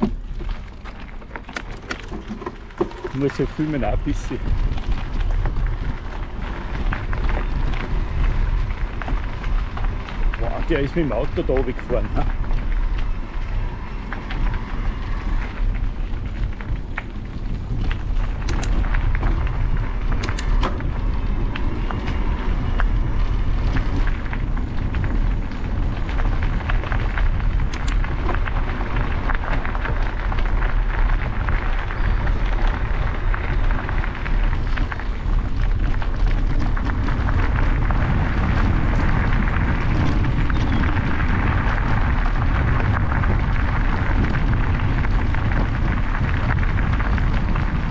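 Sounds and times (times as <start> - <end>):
bicycle tyres crunching gravel: 0.0 - 47.9
loose stones clicking: 0.0 - 47.9
wind rumbling on microphone: 0.0 - 47.9.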